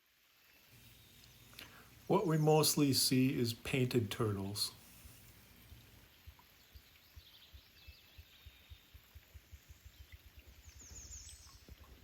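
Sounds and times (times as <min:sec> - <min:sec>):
distant birds chirping: 0:00.6 - 0:11.8.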